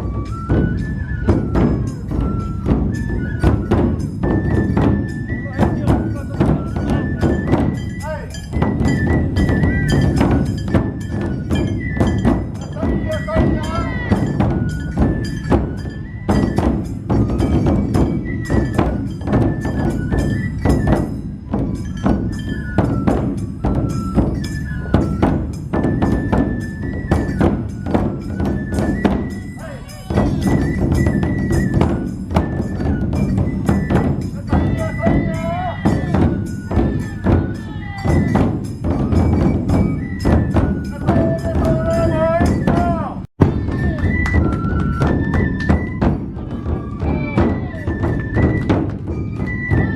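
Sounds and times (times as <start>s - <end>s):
bamboo flute melody: 0.0s - 49.9s
large drums beating: 0.0s - 49.9s.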